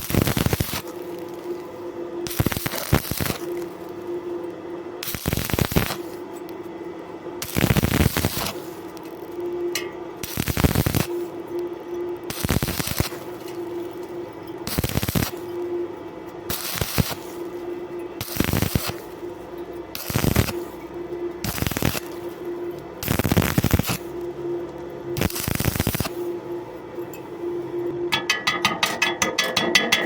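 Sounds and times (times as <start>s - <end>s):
welding arc crackling: 0.0s - 26.5s
steady hum: 0.0s - 30.0s.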